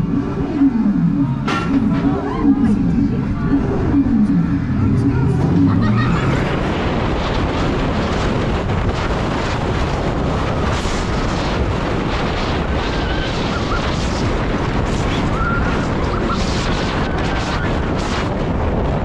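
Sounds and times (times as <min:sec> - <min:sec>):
wheels rumbling on track: 0:00.0 - 0:19.0
wind rush on microphone: 0:00.0 - 0:19.0.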